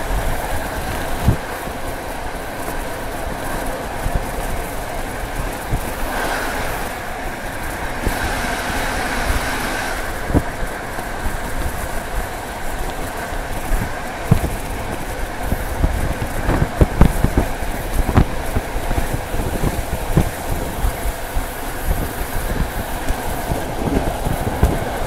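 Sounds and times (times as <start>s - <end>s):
train wheels rumbling on rail: 0.0s - 25.0s
wheels clicking over rail joints: 0.0s - 25.0s.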